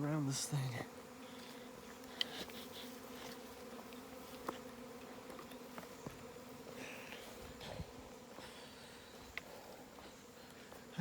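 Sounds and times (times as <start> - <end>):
swarm of bees buzzing: 0.0 - 11.0.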